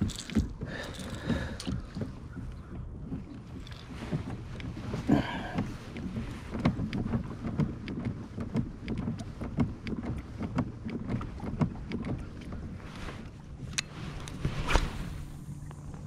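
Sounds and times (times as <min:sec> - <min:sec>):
kayak knocking lightly: 0:00.0 - 0:16.0
wind rumble on microphone: 0:00.0 - 0:16.0.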